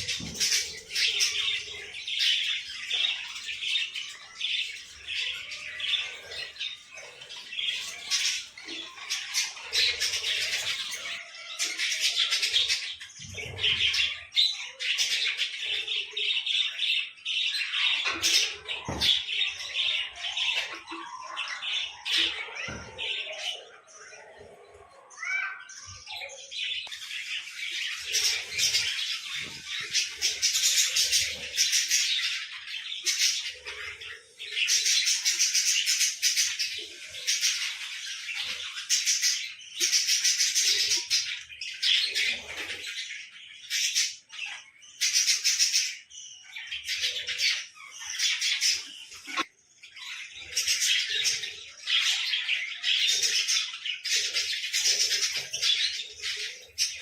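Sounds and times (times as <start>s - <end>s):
small birds chattering and chirping: 0.0s - 57.0s.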